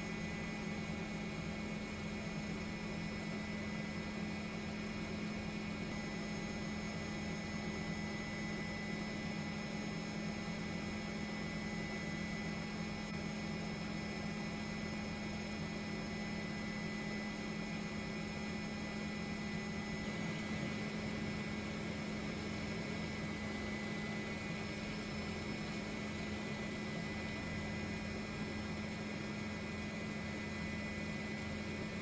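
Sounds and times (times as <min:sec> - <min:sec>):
helicopter turbine engine hum: 0:00.0 - 0:32.0.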